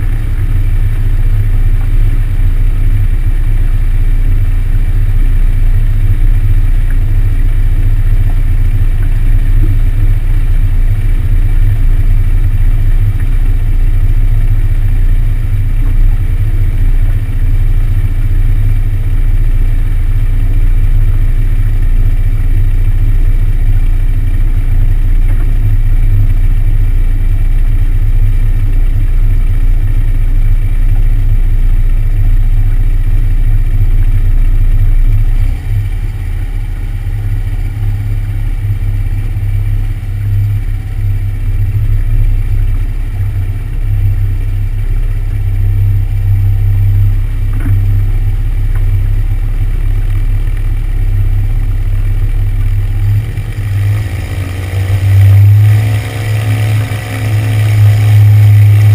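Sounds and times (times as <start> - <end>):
light airplane engine hum: 0.0 - 58.9.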